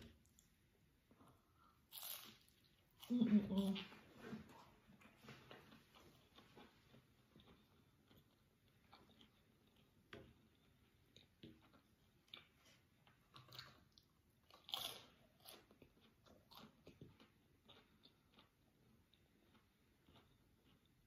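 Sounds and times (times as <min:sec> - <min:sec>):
chewing crunchy food: 0:01.2 - 0:21.0.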